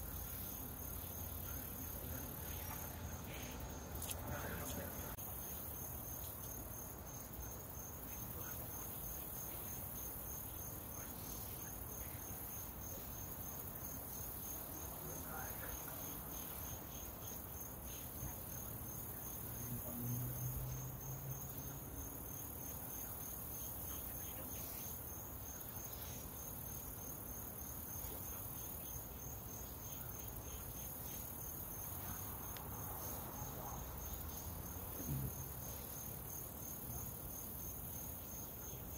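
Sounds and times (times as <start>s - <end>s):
cricket trilling: 0.0s - 38.9s.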